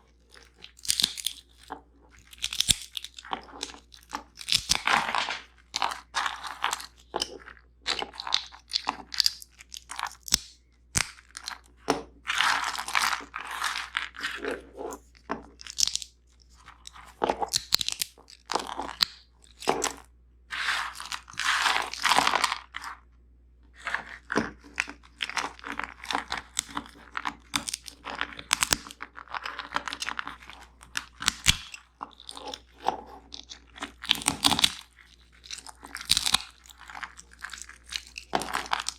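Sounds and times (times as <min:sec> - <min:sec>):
crunching and chewing nuts: 0:00.0 - 0:23.1, 0:23.7 - 0:38.9.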